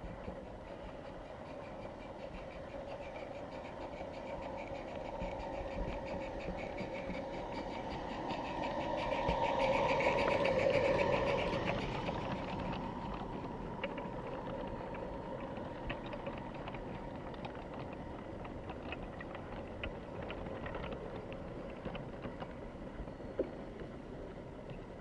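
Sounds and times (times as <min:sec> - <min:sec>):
faint steady whine: 0:00.0 - 0:25.0
wheels clicking on rails: 0:00.0 - 0:25.0.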